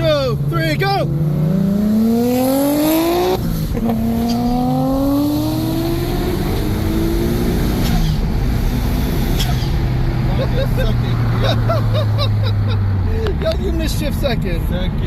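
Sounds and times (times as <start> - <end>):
car engine accelerating hard: 0.0 - 15.0
wind and road noise: 0.0 - 15.0.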